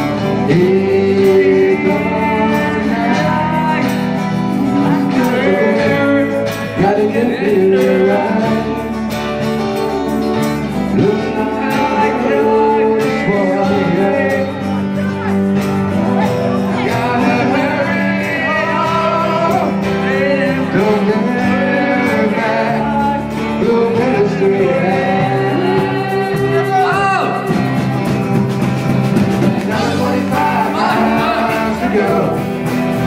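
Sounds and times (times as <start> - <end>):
person singing: 0.0 - 28.6, 29.3 - 33.0
live band with guitars: 0.0 - 33.0.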